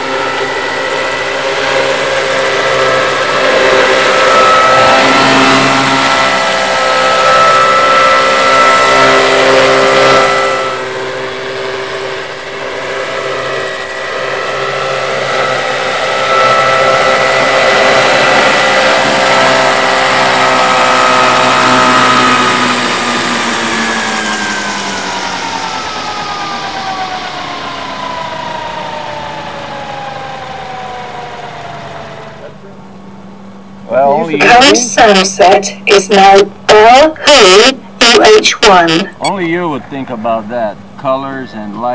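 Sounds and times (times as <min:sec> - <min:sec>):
model helicopter whine and rotor: 0:00.0 - 0:41.7.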